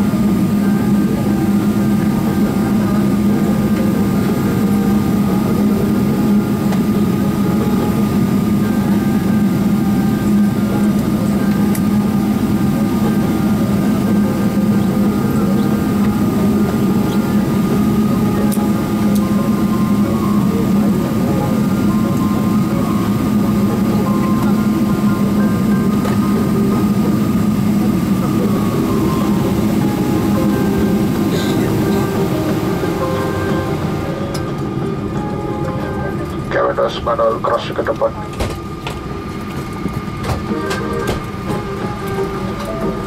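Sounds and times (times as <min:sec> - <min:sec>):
airplane cabin engine drone: 0:00.0 - 0:43.0.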